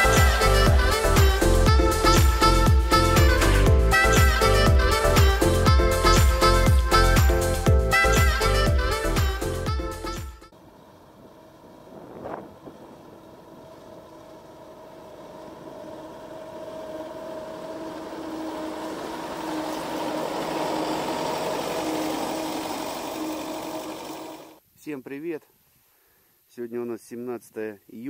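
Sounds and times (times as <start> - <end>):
combine harvester running: 0.0 - 8.5, 10.5 - 24.6.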